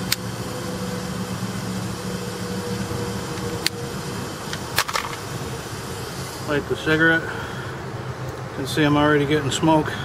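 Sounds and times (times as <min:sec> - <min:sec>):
mechanical hum with hiss of air: 0:00.0 - 0:10.0.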